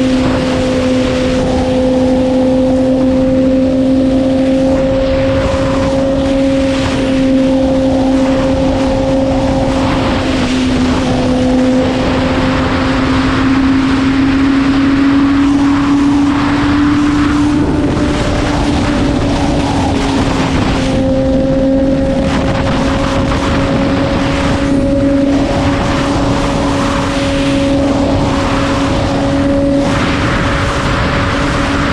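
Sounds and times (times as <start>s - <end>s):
motorcycle engine at high revs: 0.0s - 31.9s
wind rush on camera: 0.0s - 31.9s.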